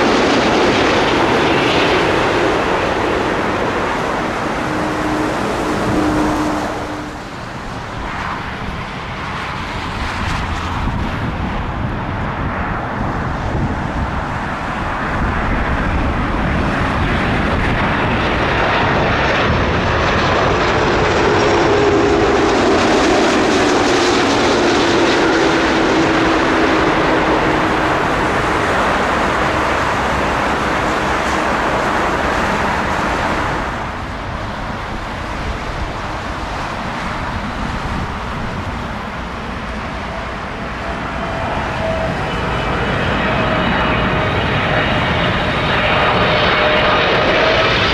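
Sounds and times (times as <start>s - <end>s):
jet airliner passing overhead: 0.0s - 47.9s.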